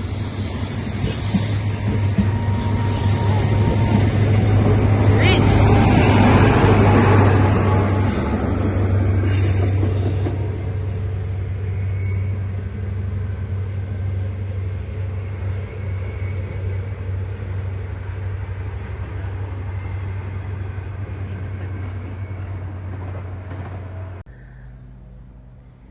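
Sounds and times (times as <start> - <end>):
diesel train engine rumble: 0.0 - 25.9.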